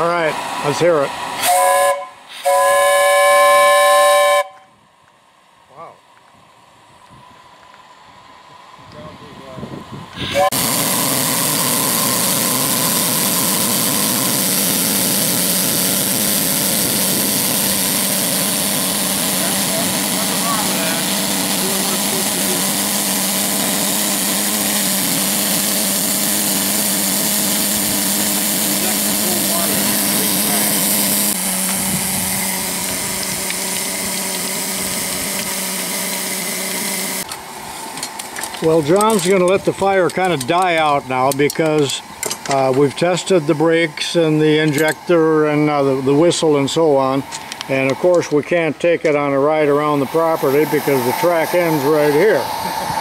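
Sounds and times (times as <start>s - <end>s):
steam hissing from boiler: 0.0s - 4.6s, 9.4s - 53.0s.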